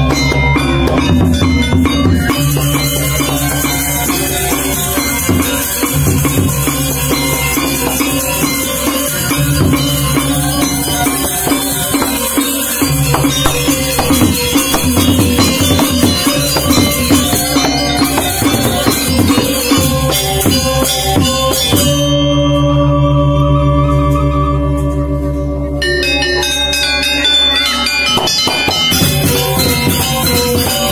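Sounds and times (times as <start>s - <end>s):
gongs ringing: 0.0s - 23.2s, 25.8s - 30.9s
gamelan orchestra playing: 0.0s - 30.9s.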